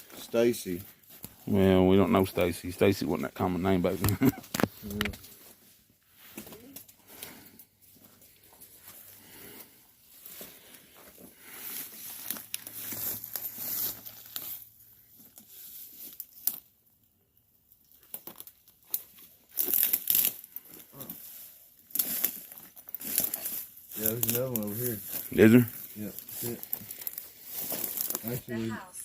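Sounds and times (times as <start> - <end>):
brush and leaves rustling: 0.0 - 16.8, 17.8 - 29.0.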